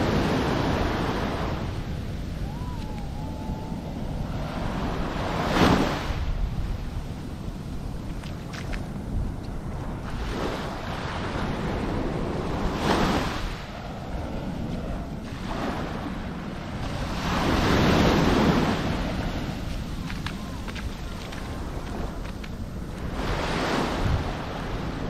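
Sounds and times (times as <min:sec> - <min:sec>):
small waves breaking on beach: 0:00.0 - 0:25.0
wind rumble on microphone: 0:00.0 - 0:25.0.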